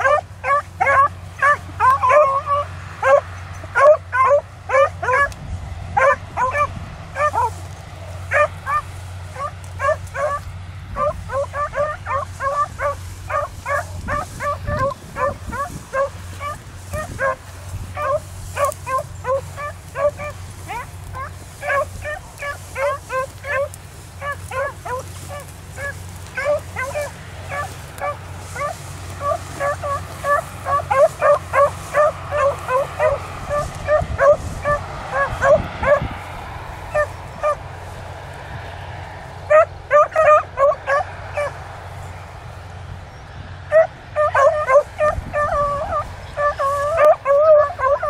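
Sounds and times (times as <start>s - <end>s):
dogs baying: 0.0s - 42.0s, 43.6s - 48.0s.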